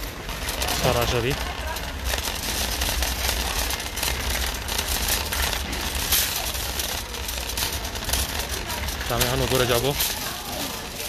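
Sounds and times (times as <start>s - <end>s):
shopping cart wheels rumbling: 0.0s - 11.0s
metal basket rattling: 0.2s - 11.0s.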